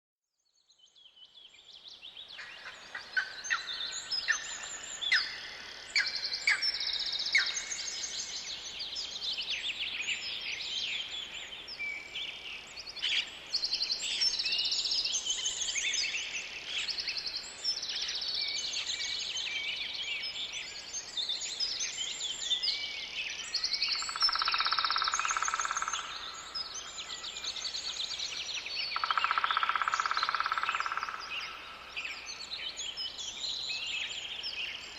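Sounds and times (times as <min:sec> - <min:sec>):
birds chirping and trilling: 0:01.1 - 0:34.9.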